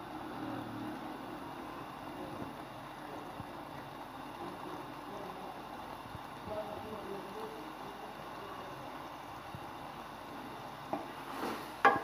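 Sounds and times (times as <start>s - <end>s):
food sizzling in oil in a pan: 0.0s - 12.0s.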